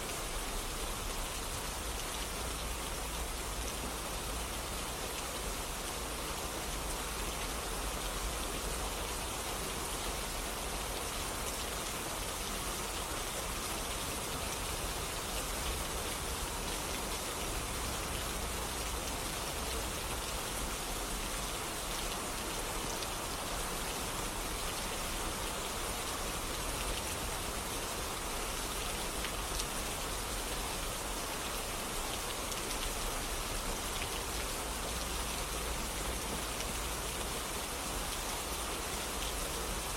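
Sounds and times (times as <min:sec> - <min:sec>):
raindrops hitting surfaces: 0:00.0 - 0:39.9
steady rain hiss: 0:00.0 - 0:39.9.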